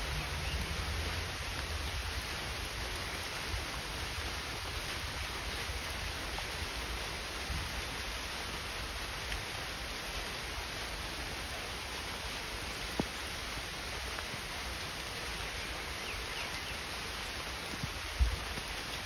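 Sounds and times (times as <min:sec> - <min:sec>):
rain falling on foliage: 0:00.0 - 0:19.0.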